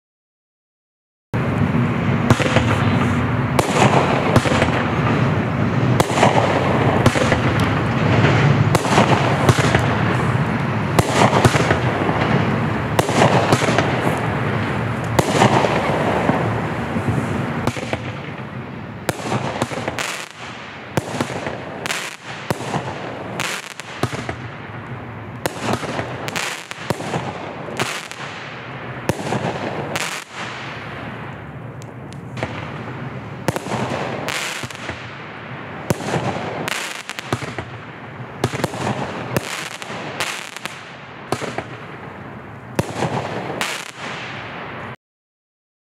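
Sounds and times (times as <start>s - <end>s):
fireworks launching and bursting: 1.4s - 45.0s.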